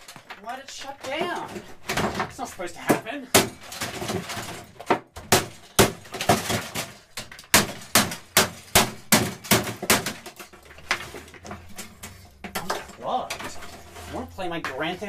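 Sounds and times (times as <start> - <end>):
television being smashed: 0.0 - 14.0.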